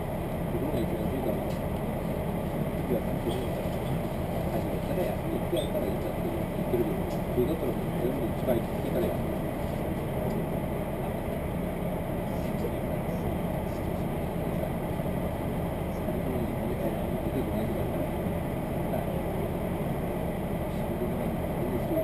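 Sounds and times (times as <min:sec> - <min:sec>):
railcar engine drone: 0:00.0 - 0:22.0
train wheels rumbling on track: 0:00.0 - 0:22.0.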